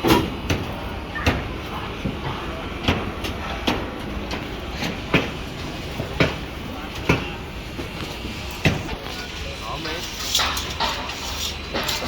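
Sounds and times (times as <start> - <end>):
steel rebar knocking and clanking: 0.0 - 7.4, 8.6 - 12.0
building site background noise: 0.0 - 12.0.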